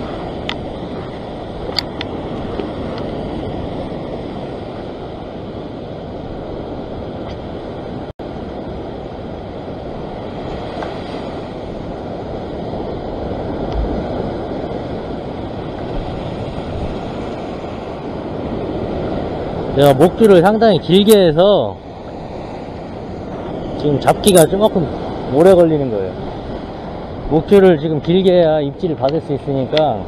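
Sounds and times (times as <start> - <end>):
surf breaking over rocks: 0.0 - 5.0, 8.6 - 30.0
wind buffeting microphone: 0.0 - 30.0.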